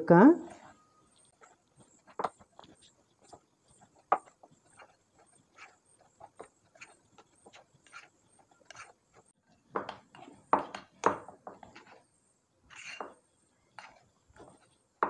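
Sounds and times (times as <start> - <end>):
spoon stirring flour in glass bowl: 0.4 - 10.9, 11.5 - 12.0, 12.7 - 14.9.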